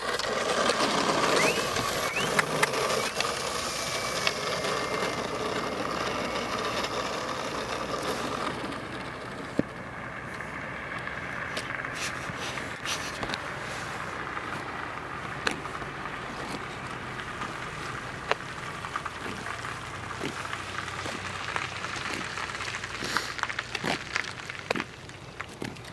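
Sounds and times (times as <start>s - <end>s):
model aeroplane motor droning: 0.0s - 23.2s.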